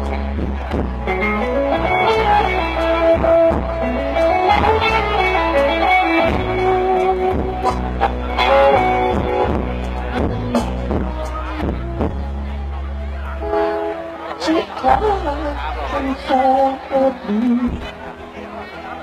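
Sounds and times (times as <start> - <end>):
bass and backing band: 0.0 - 19.0
guitar melody: 0.0 - 19.0.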